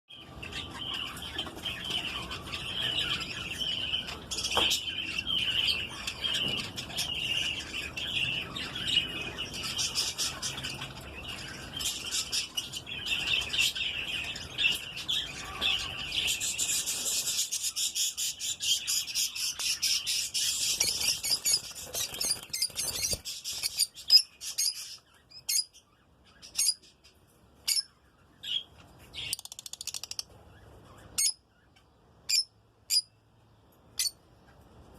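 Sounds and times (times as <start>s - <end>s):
lovebird chicks chirping: 0.1s - 33.2s, 33.9s - 34.7s.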